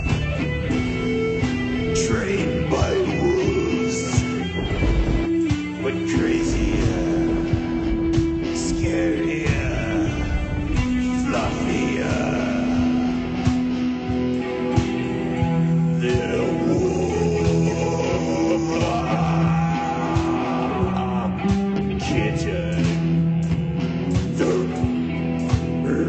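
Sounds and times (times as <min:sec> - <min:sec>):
rock band music: 0:00.0 - 0:26.0
person singing: 0:01.9 - 0:13.8, 0:15.4 - 0:23.4, 0:24.2 - 0:25.1, 0:25.7 - 0:26.0.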